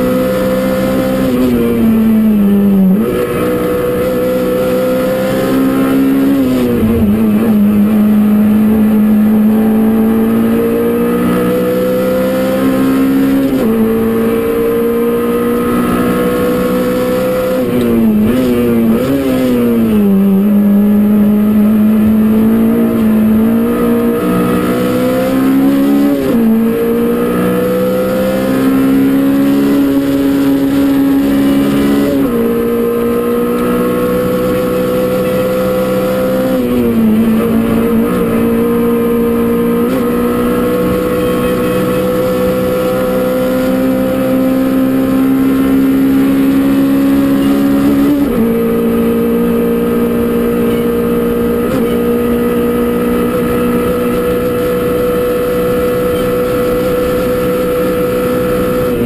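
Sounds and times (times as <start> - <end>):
race car engine pulling hard: 0.0 - 59.0.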